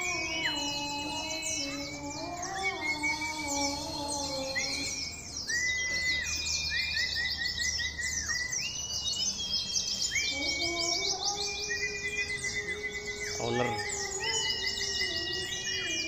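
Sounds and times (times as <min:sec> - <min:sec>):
bird rapid high twittering: 0:00.0 - 0:16.0
lower steady bird notes: 0:00.0 - 0:16.0.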